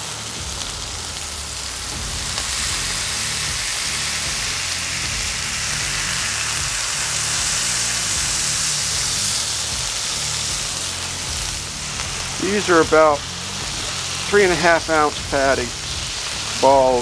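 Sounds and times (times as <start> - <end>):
burger patties sizzling on griddle: 0.0 - 17.0.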